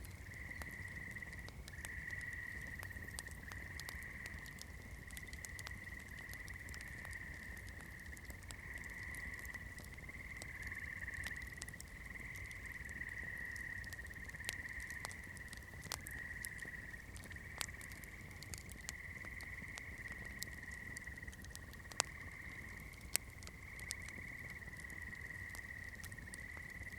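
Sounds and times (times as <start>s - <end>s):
campfire crackling: 0.0s - 26.9s.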